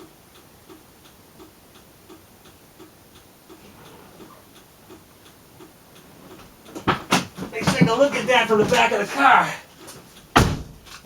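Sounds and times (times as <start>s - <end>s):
turn-signal flasher ticking: 0.0s - 10.4s.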